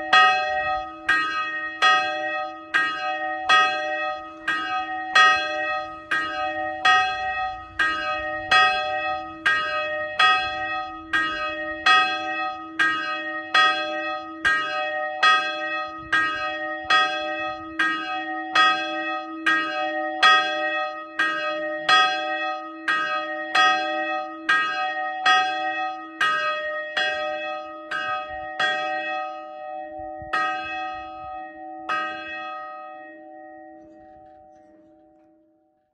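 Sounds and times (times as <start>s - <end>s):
church bell ringing: 0.0s - 35.9s.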